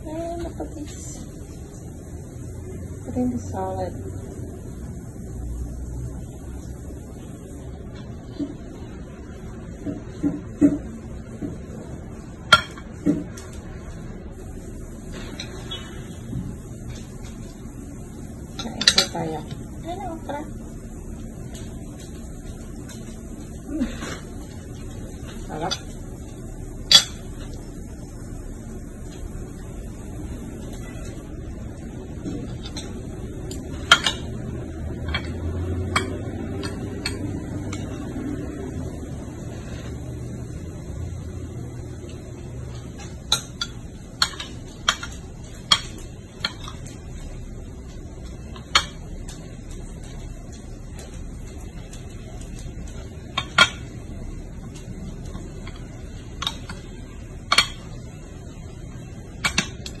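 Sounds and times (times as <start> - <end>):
low background hum: 0.0 - 60.0.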